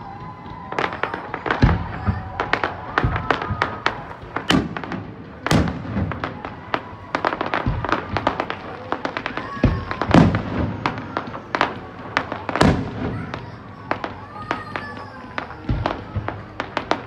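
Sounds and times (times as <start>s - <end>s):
firework pops and crackles: 0.0s - 17.0s
deep firework booms: 0.1s - 14.2s.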